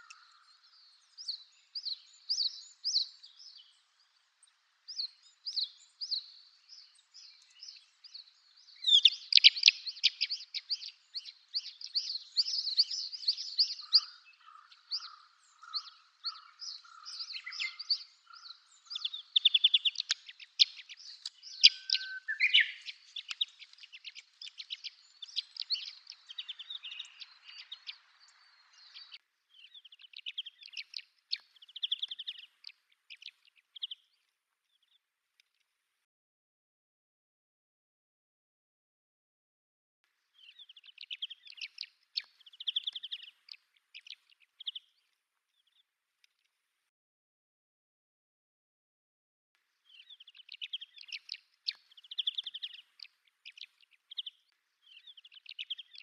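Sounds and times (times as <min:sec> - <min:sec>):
larks chirping and twittering: 0:00.0 - 0:35.6, 0:40.4 - 0:46.5, 0:49.8 - 0:56.0.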